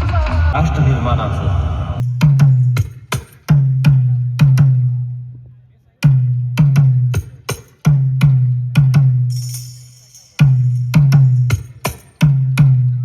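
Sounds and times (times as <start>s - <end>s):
bass-heavy drum beat: 0.0s - 5.3s, 6.0s - 9.6s, 10.4s - 13.0s.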